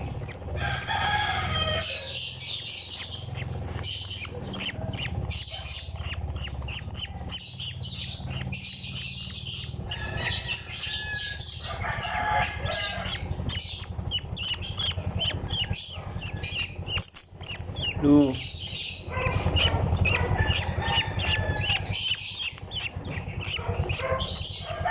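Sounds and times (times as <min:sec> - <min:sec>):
lovebird raspy calls: 0:00.0 - 0:24.9.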